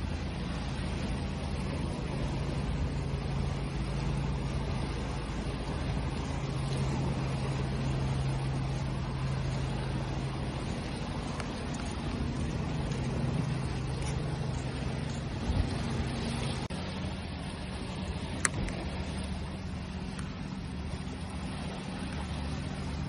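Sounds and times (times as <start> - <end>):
higher hum: 0.0 - 23.0
low engine hum: 0.0 - 23.0
ocean waves washing: 0.0 - 23.0.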